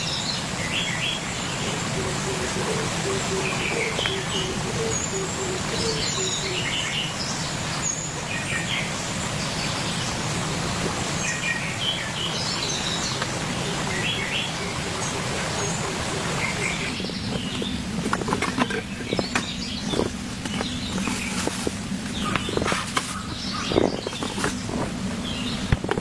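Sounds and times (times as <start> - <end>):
birds chirping: 0.0 - 26.0
steady rain: 0.0 - 26.0.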